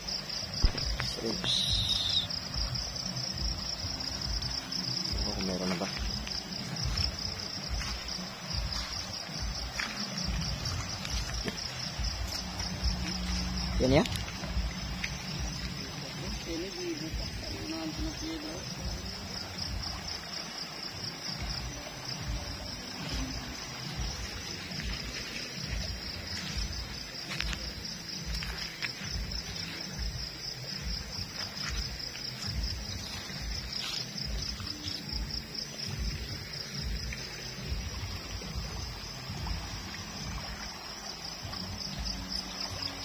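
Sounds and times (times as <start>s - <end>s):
insects chirring: 0.0s - 43.0s
river water running: 0.0s - 43.0s.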